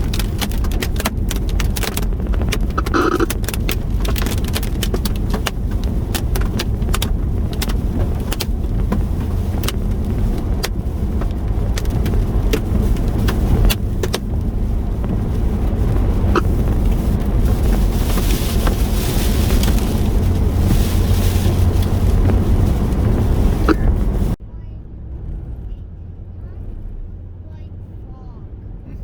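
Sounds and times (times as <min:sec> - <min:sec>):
hailstones hitting car body: 0:00.0 - 0:24.4
wind and rain hiss: 0:00.0 - 0:24.4
car driving: 0:00.0 - 0:29.0.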